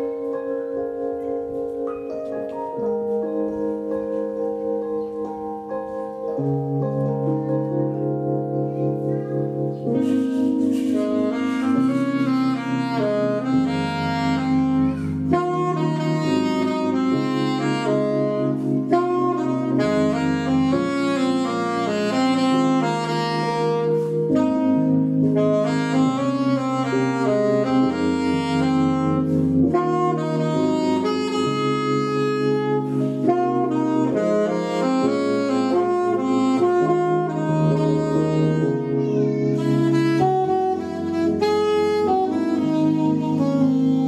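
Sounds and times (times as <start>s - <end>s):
keyboard chords and bass: 0.0s - 44.0s
saxophone melody: 0.0s - 44.0s.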